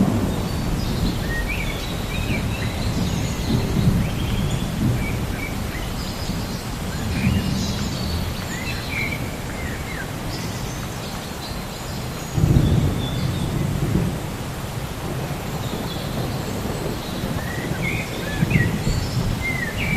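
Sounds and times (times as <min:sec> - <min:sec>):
low thunder rumbles: 0:00.0 - 0:10.6, 0:12.4 - 0:19.9
birds chirping: 0:00.0 - 0:14.7, 0:15.4 - 0:19.9.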